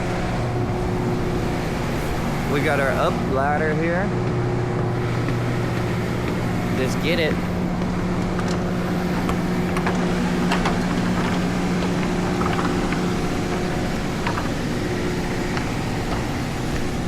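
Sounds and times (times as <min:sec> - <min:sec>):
portable generator engine humming: 0:00.0 - 0:17.0.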